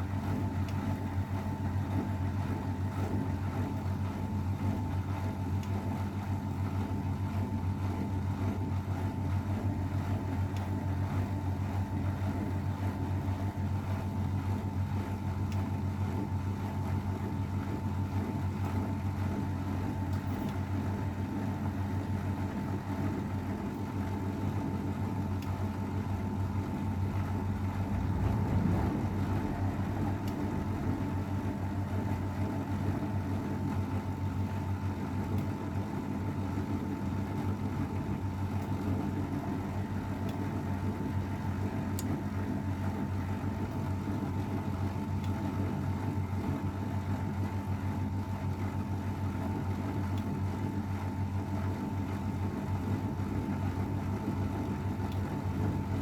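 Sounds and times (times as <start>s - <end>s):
washing machine drum spinning: 0.0s - 56.0s.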